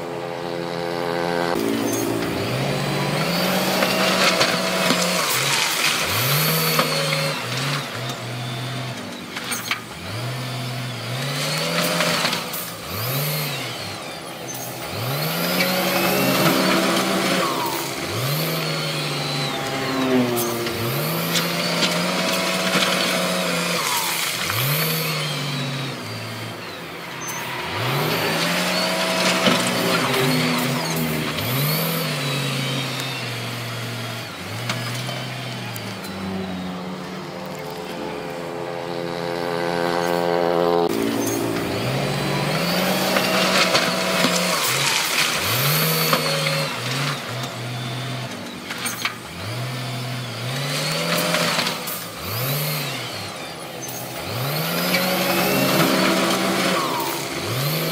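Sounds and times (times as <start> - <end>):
diesel engines revving: 0.0 - 57.9.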